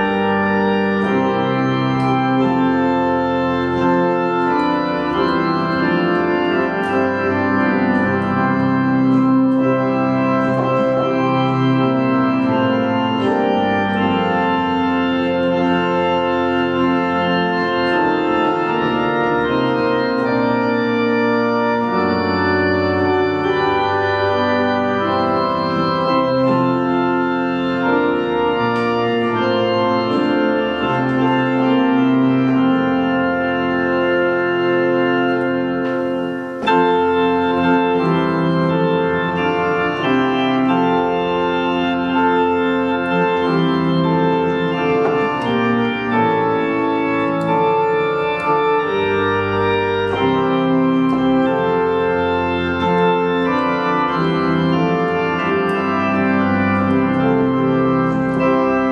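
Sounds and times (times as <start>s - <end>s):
organ playing a hymn: 0.0s - 58.9s.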